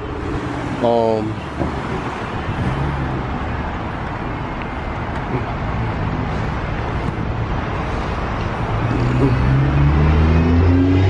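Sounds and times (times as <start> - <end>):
road and wind noise: 0.0 - 11.0
truck engine hum: 0.0 - 11.0.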